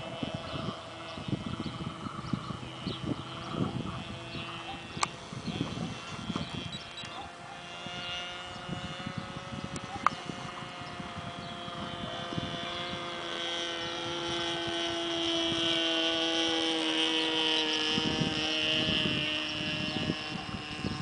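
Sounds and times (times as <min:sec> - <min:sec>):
model plane engine: 0:00.0 - 0:21.0
wind buffeting microphone: 0:00.0 - 0:21.0.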